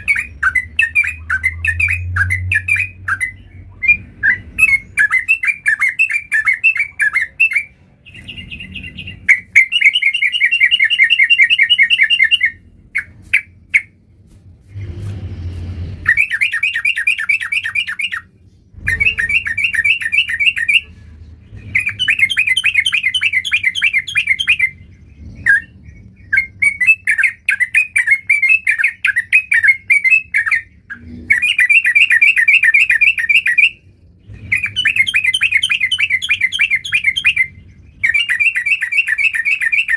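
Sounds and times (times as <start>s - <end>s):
bird warbling song: 0.0s - 14.0s, 15.9s - 39.9s.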